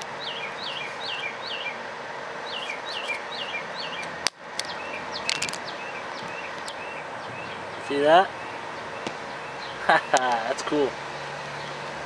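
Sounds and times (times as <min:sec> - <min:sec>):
bird calling: 0:00.0 - 0:01.8, 0:02.4 - 0:11.8.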